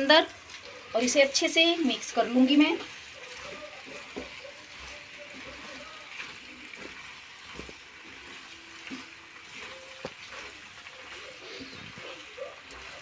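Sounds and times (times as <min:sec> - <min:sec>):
wet squelching of stirred pasta: 0:00.0 - 0:13.0.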